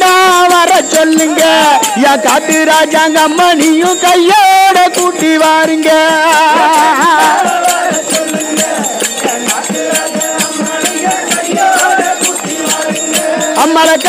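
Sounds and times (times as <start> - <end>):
hand drums fast rhythm: 0.0 - 14.0
jingling percussion: 0.0 - 14.0.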